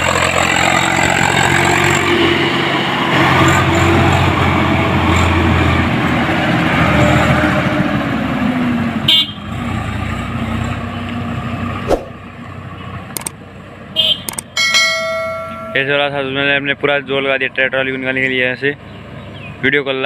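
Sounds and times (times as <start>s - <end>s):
tractor diesel engine running: 0.0s - 19.6s
distant vehicle: 0.0s - 20.0s.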